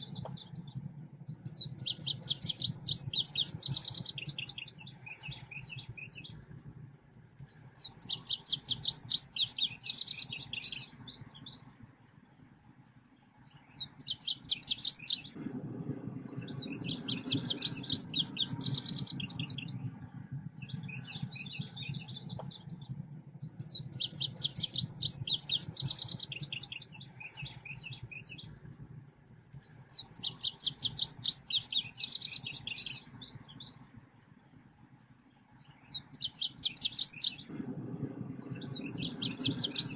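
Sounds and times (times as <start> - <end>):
songbird chirping rapidly: 0.0 - 6.5, 7.4 - 12.5, 13.1 - 28.7, 29.5 - 39.9
faint low hum: 0.0 - 39.9.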